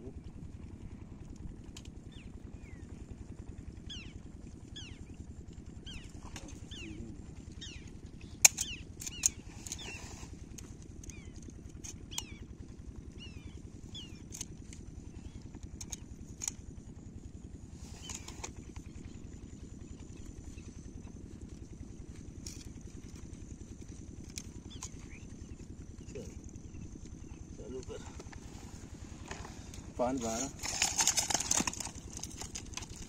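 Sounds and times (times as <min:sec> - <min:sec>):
birds chirping: 0:02.0 - 0:03.0, 0:03.8 - 0:16.4, 0:17.7 - 0:33.0.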